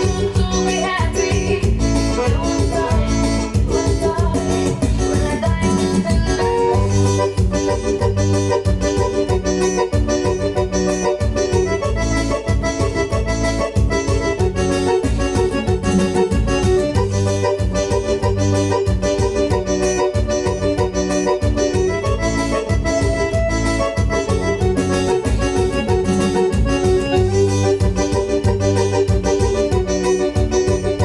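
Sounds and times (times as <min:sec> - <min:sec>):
organ-like keyboard melody: 0:00.0 - 0:31.0
steady bass beat: 0:00.0 - 0:31.0.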